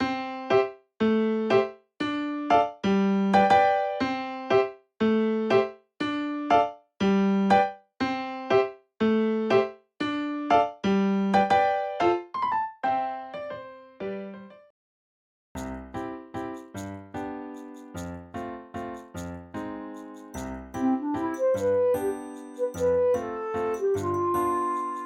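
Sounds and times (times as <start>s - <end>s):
electric piano melody: 0.0s - 14.7s, 15.6s - 25.0s.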